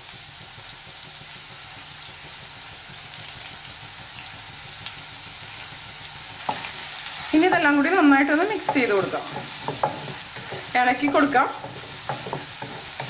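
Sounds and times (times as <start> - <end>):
shallots sizzling in oil: 0.0 - 13.0.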